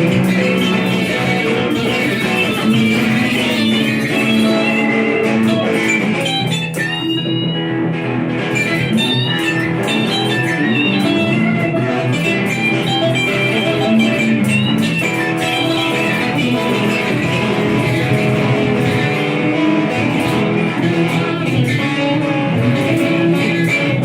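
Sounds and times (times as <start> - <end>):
blues-rock electric guitar: 0.0 - 24.0.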